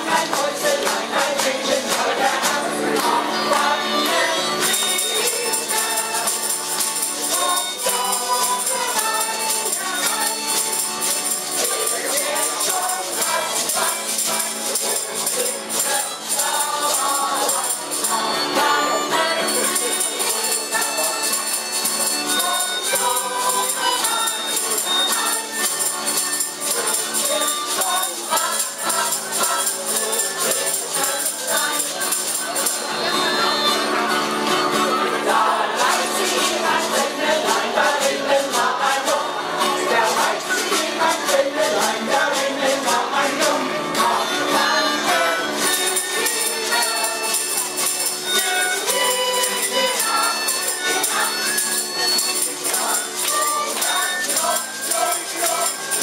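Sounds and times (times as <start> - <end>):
group singing in unison: 0.0 - 33.4, 34.9 - 56.0
strummed acoustic guitars: 0.0 - 56.0.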